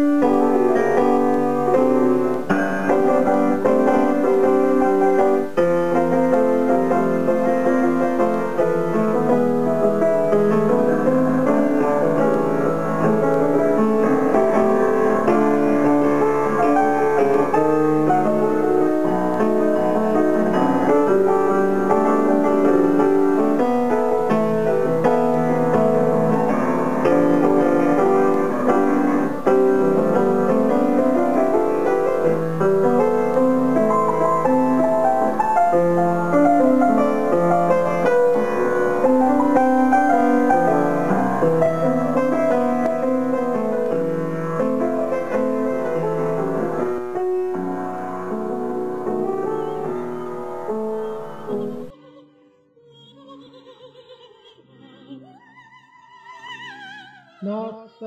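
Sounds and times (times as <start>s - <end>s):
solo grand piano: 0.0s - 57.3s.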